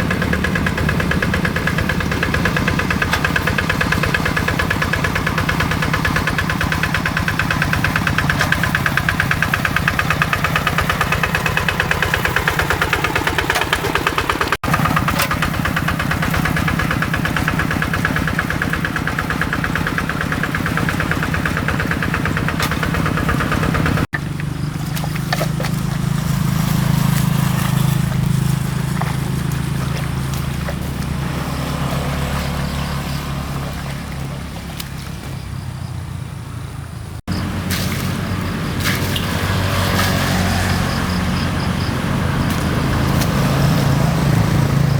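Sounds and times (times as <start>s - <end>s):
diesel engine chugging: 0.0s - 44.9s.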